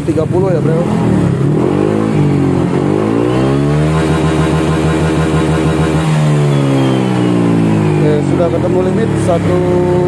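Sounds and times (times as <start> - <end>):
scooter engine revving: 0.0 - 10.0.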